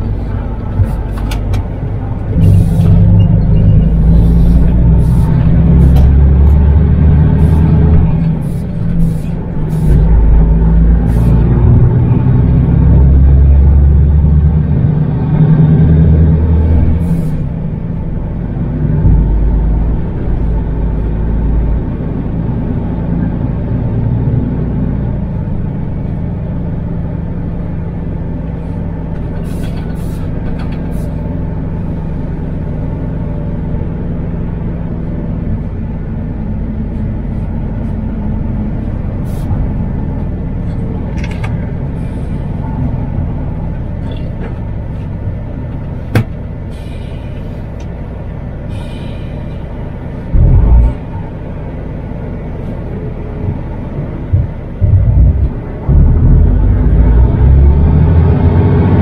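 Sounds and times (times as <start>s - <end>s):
diesel engine drone in cab: 0.0s - 59.0s.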